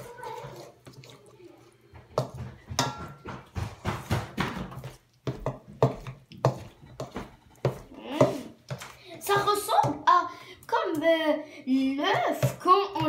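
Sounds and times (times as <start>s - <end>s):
spoon mixing dough in metal bowl: 0.0s - 10.8s, 12.0s - 13.0s.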